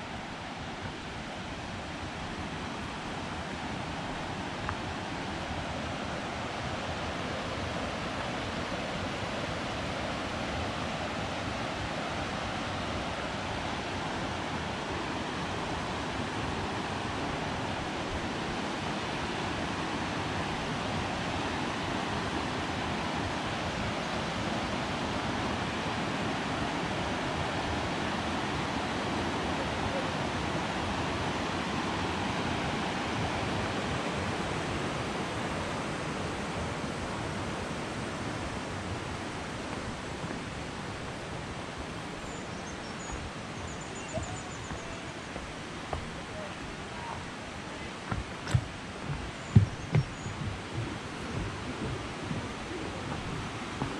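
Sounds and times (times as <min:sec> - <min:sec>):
creek water rushing: 0:00.0 - 0:53.9.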